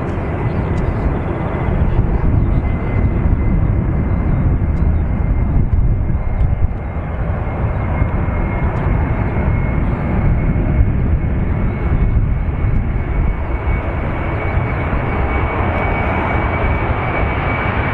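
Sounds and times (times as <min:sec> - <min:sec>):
jet engines rumbling: 0:00.0 - 0:17.9
turbine whine: 0:00.0 - 0:17.9.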